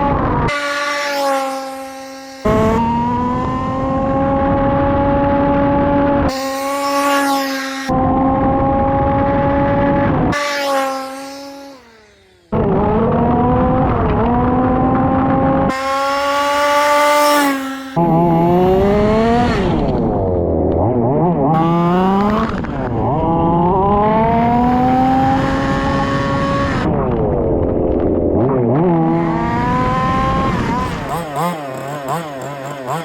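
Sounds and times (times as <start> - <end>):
rc car two-stroke engine revving: 0.4 - 26.9, 28.3 - 33.0.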